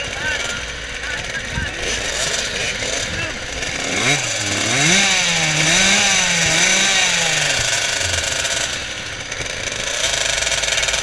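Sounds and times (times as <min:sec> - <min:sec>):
two-stroke motocross bike engines revving: 0:00.0 - 0:11.0.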